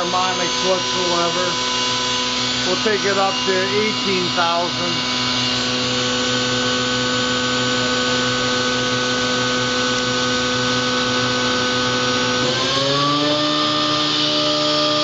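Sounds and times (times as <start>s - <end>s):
machine spindle whine: 0.0s - 15.0s.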